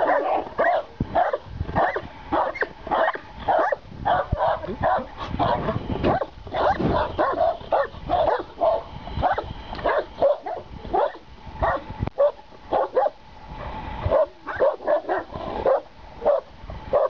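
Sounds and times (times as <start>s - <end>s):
dogs barking: 0.0s - 13.2s, 14.1s - 17.0s.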